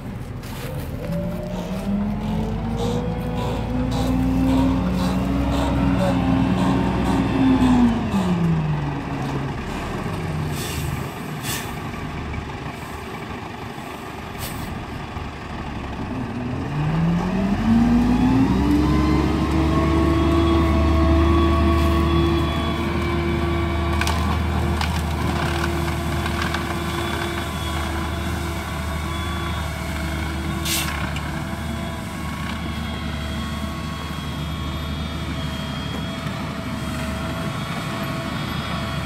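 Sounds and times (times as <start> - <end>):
diesel truck engine revving: 0.0 - 39.0.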